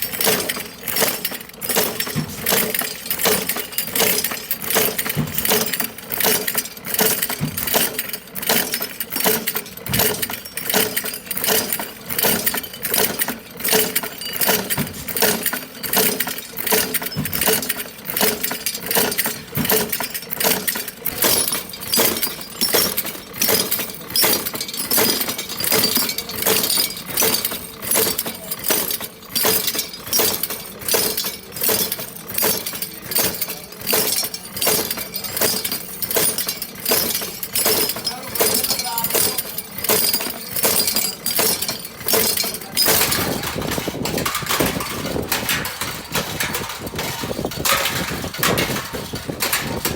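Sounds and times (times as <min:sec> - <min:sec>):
hard objects clinking together: 0:00.0 - 0:49.9.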